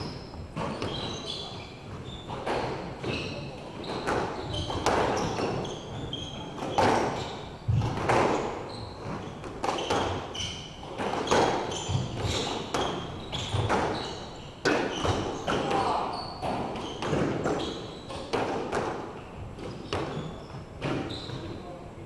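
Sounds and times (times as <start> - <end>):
sneakers squeaking on hardwood: 0.0 - 21.8.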